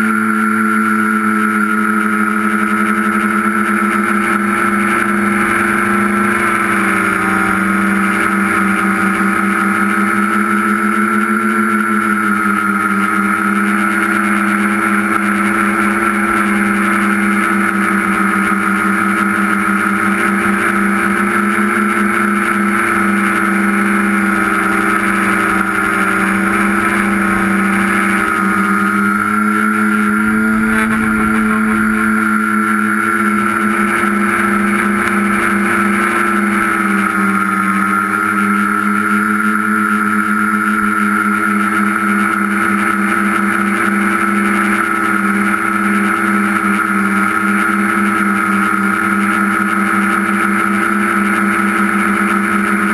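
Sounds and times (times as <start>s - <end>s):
drone motors and propellers buzzing: 0.0s - 52.9s.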